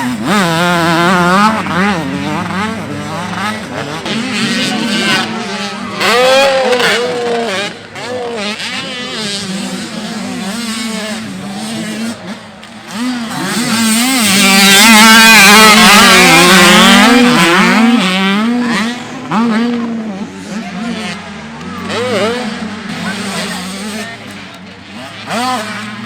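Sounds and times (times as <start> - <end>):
dirt bike engines racing: 0.0 - 26.0.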